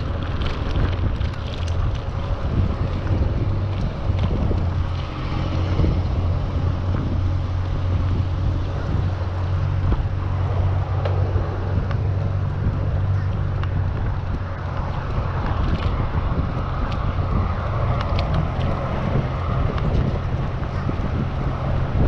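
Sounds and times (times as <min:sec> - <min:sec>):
road and tyre noise: 0:00.0 - 0:22.0
wind buffeting microphone: 0:00.0 - 0:22.0.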